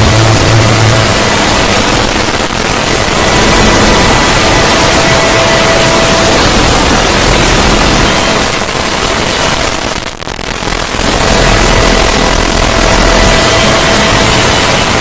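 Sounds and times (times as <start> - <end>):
faint steady tones: 0.0 - 15.0
harsh static-like noise: 0.0 - 15.0.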